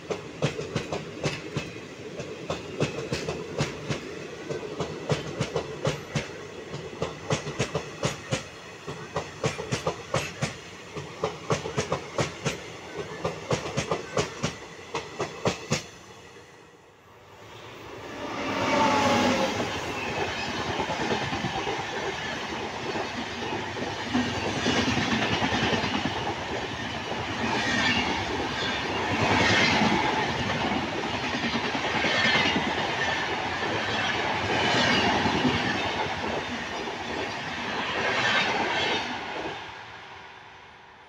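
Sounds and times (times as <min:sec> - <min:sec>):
train coaches passing: 0:00.0 - 0:41.0.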